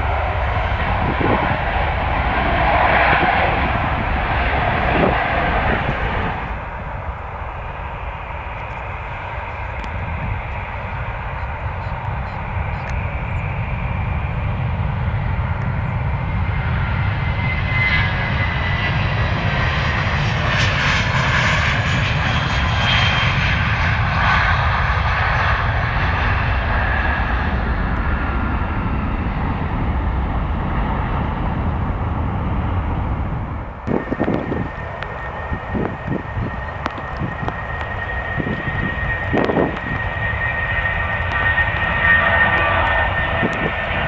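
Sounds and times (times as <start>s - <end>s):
jet airliner climbing: 0.0s - 44.0s.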